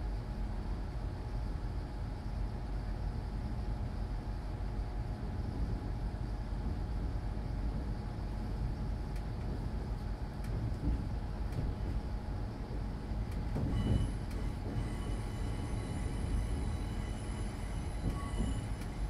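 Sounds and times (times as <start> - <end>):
train engine rumble: 0.0 - 19.0.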